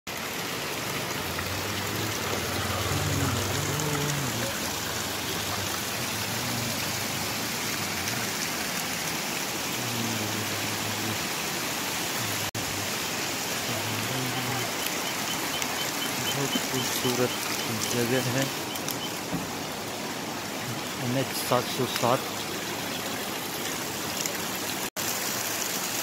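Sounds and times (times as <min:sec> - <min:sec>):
water pouring and splashing: 0:00.1 - 0:26.0
water trickling: 0:00.1 - 0:26.0.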